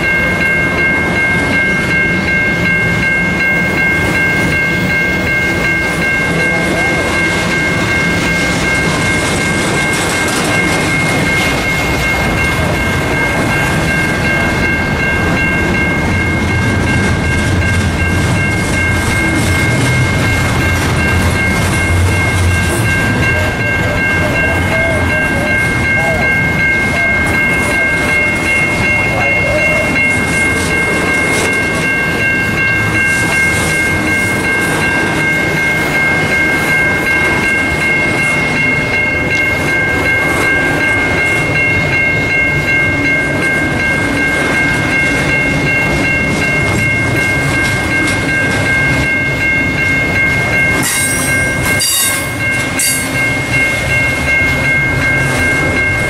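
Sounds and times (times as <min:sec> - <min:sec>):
freight cars clickety-clack: 0:00.0 - 0:56.0.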